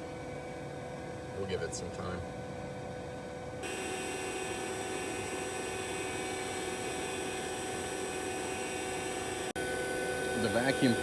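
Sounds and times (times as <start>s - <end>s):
vacuum pump humming: 0.0s - 11.0s.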